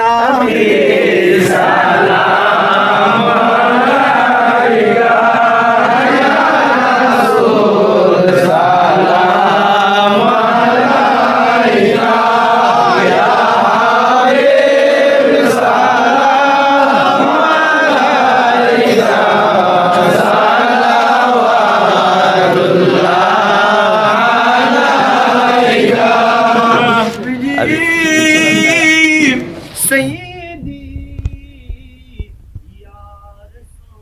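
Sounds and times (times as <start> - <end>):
men chanting in unison: 0.0 - 32.2.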